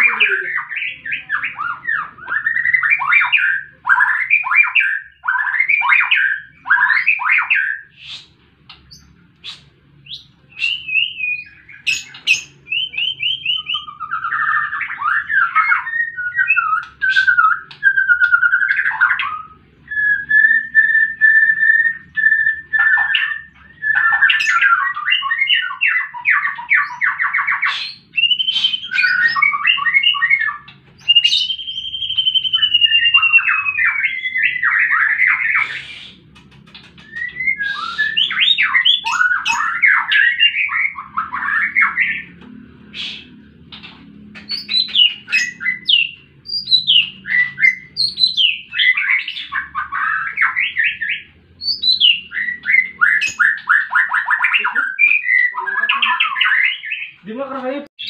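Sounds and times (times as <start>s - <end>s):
bird singing trills and whistles: 0.0s - 57.6s.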